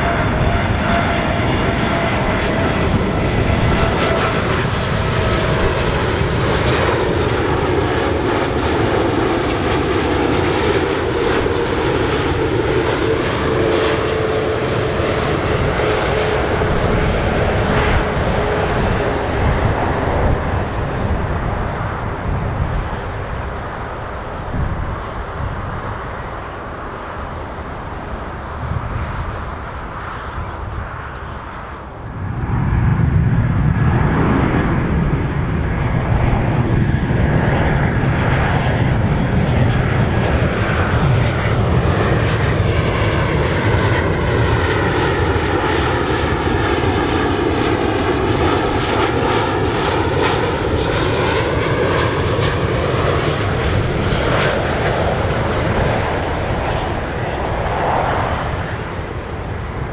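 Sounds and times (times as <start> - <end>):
airliner engines passing overhead: 0.0 - 59.9.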